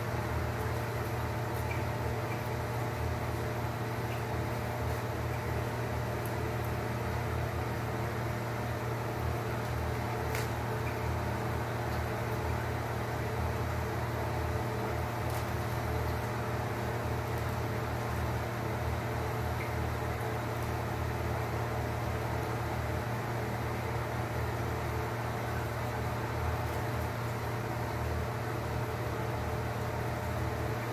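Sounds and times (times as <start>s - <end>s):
low machine hum with hiss: 0.0s - 30.9s.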